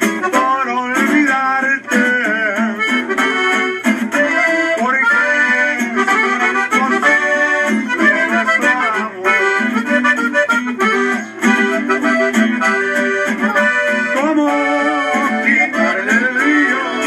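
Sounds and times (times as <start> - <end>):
accordion-led corrido music: 0.0 - 17.0.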